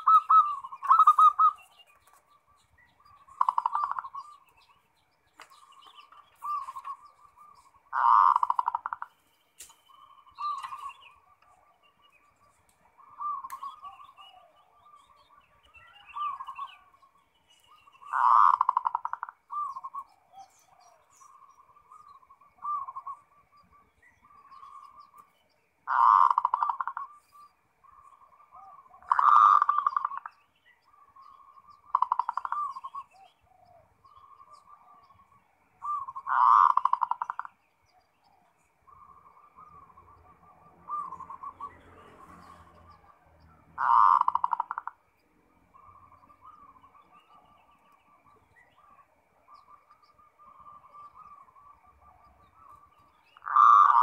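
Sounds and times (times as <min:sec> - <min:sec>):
doves cooing: 0:00.0 - 0:04.7, 0:05.3 - 0:09.2, 0:10.0 - 0:17.1, 0:17.7 - 0:25.2, 0:25.8 - 0:54.0.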